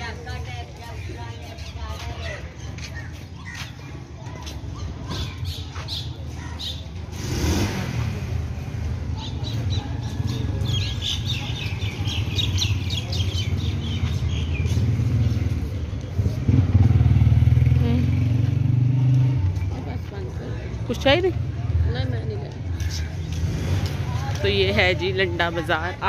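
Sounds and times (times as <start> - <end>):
motorcycle engine rumble: 4.0 - 25.6.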